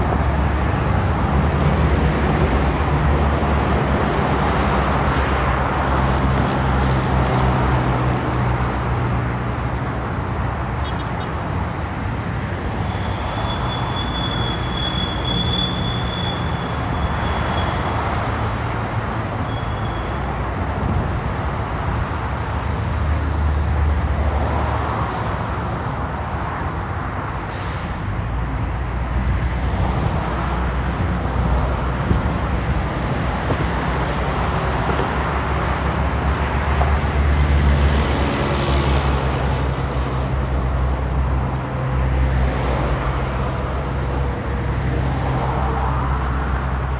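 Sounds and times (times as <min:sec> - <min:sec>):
passing traffic: 0:00.0 - 0:46.9.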